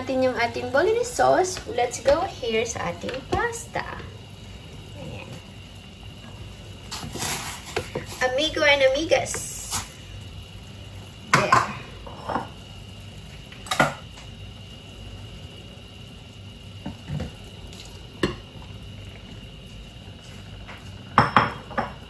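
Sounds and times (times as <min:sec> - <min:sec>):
water boiling: 0:00.0 - 0:22.0.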